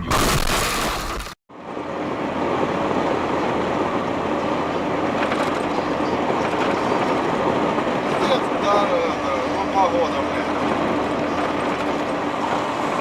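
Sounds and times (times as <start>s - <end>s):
vehicle road and engine noise: 1.0s - 13.0s.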